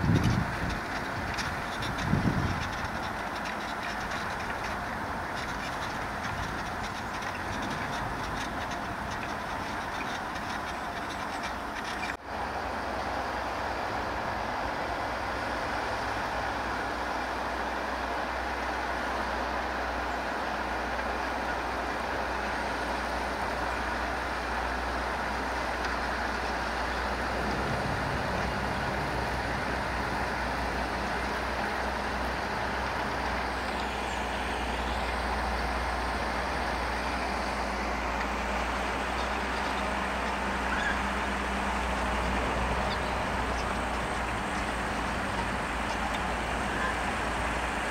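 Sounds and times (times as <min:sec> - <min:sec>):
tractor engine under load: 0:00.0 - 0:47.9.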